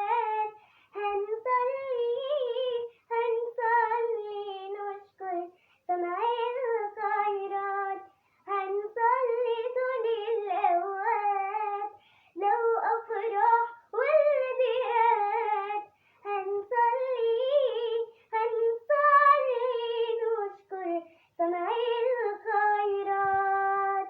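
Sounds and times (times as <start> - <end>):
girl singing hymn unaccompanied: 0.0 - 24.0.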